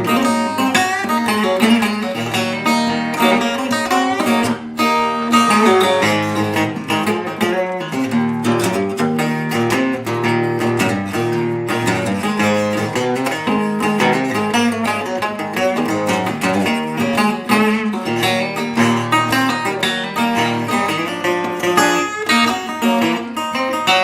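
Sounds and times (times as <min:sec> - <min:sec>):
acoustic guitar picking: 0:00.0 - 0:24.0.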